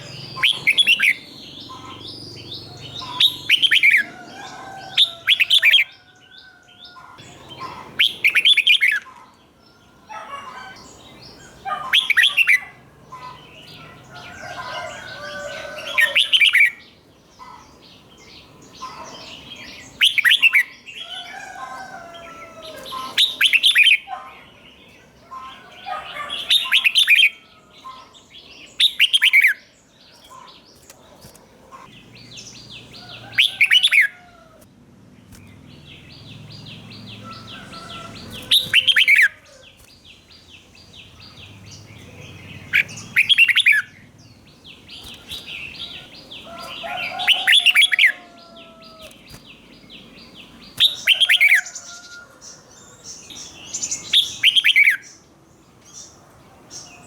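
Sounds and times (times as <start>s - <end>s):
bird singing fluty phrases: 0.0s - 34.2s, 35.2s - 57.0s.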